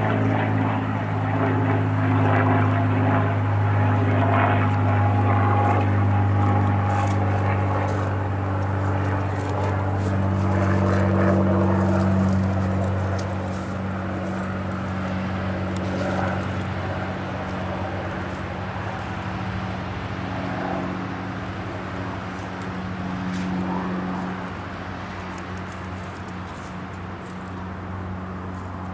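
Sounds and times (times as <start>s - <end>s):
propeller plane flying overhead: 0.0s - 28.9s.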